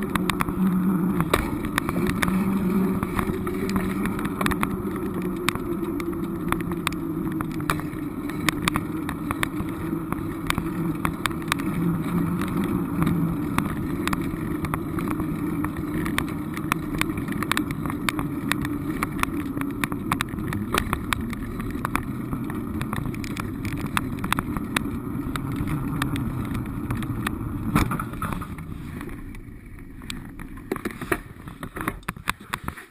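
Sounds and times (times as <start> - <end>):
small clicks and knocks: 0.0 - 32.9
vehicle engine hum: 0.0 - 32.9.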